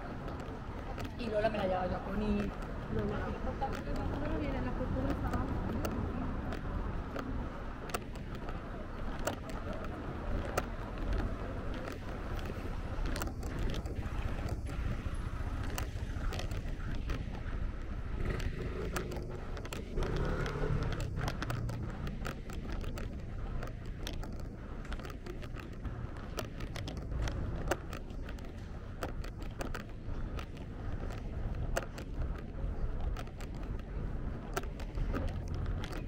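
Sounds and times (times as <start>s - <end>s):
light irregular clicks and taps: 0.0s - 36.0s
low steady street rumble: 0.0s - 36.0s.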